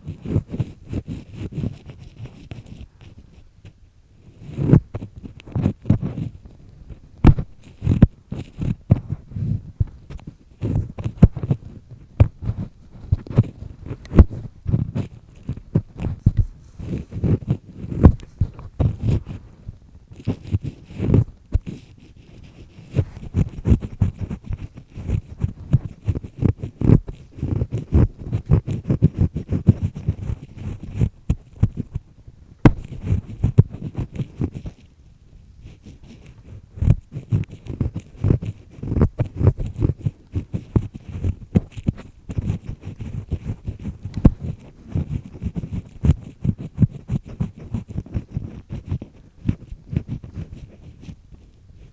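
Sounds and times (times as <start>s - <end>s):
ear pick scraping in ear: 0.0s - 34.9s, 35.6s - 51.9s.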